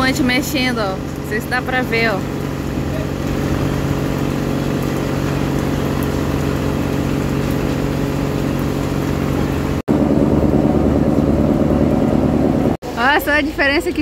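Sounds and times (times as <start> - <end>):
diesel boat engine idling: 0.0 - 13.4.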